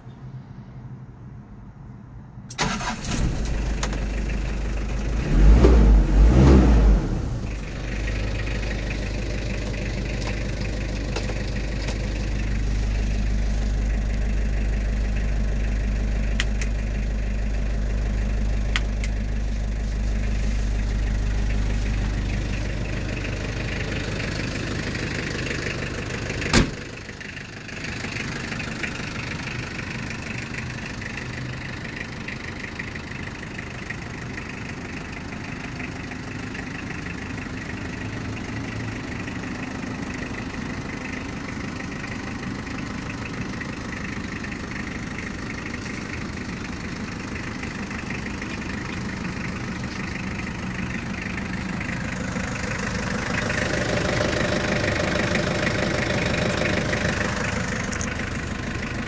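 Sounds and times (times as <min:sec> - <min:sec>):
diesel engine starting and idling: 0:02.4 - 0:59.0.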